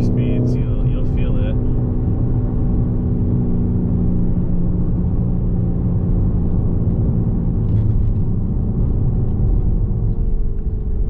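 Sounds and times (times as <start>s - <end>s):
car engine cruising: 0.0s - 11.0s.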